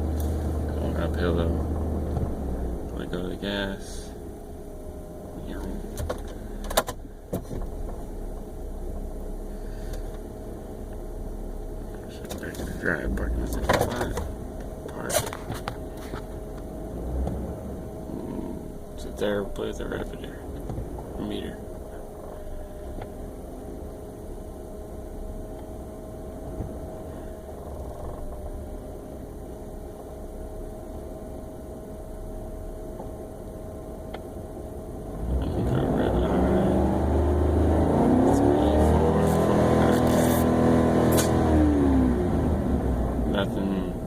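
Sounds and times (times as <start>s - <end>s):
truck engine idling and revving: 0.0s - 44.0s.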